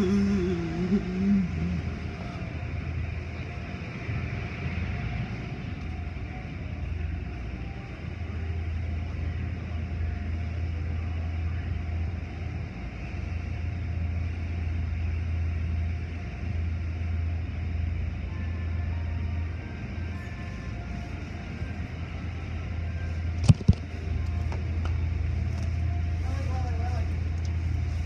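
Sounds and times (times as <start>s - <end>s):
low rumble of motors: 0.0s - 28.0s.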